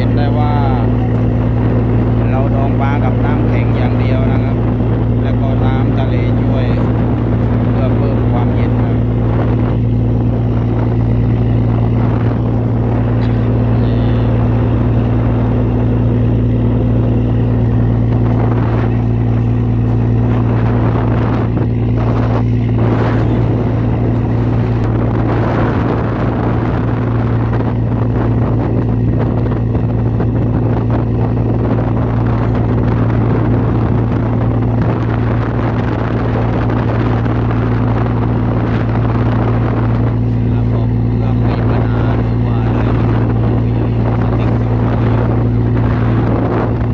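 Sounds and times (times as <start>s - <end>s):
boat engine humming: 0.0s - 46.9s
water rushing along hull: 0.0s - 46.9s.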